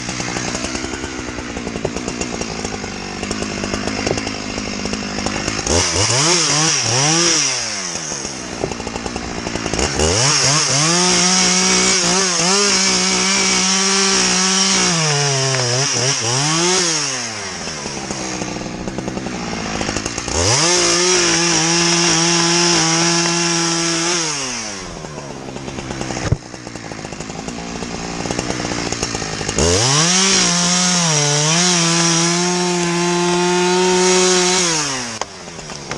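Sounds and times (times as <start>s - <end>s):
chainsaw revving and idling: 0.0s - 35.9s.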